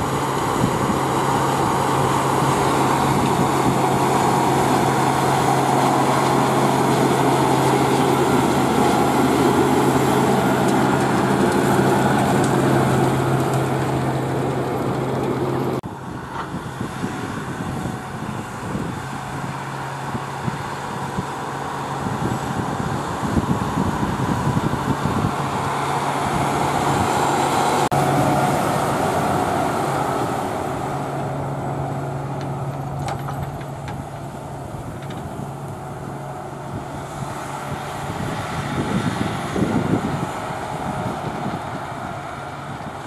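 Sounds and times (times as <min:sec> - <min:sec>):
cultivator rushing noise: 0:00.0 - 0:43.0
tractor diesel engine running: 0:00.0 - 0:43.0.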